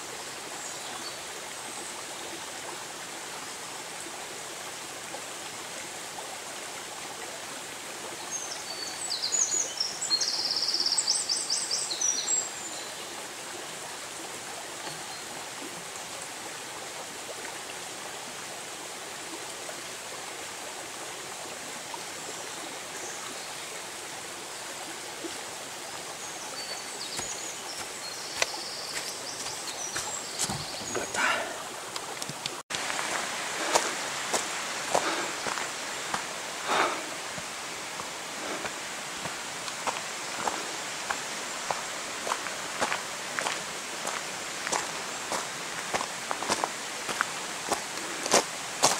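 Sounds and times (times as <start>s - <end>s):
stream running over stones: 0.0s - 48.9s.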